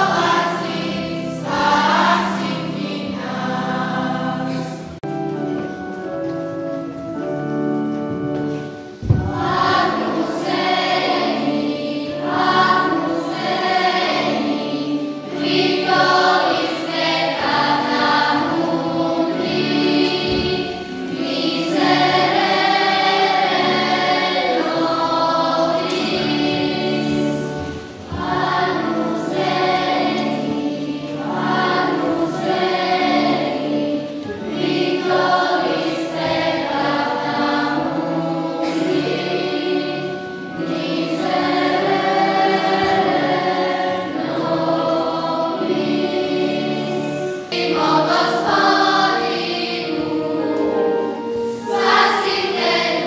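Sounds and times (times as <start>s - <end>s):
children's choir singing a hymn: 0.0s - 53.0s
keyboard accompaniment: 0.0s - 53.0s.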